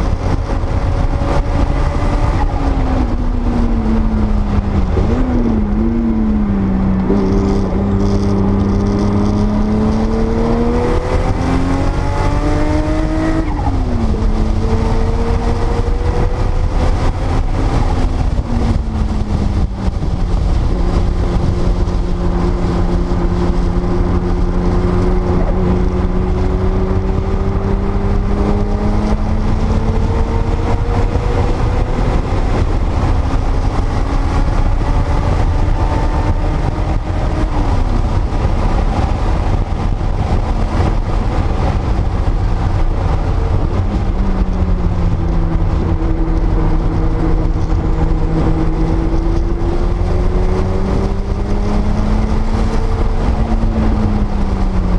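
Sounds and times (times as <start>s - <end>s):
car engine running under load: 0.0s - 54.9s.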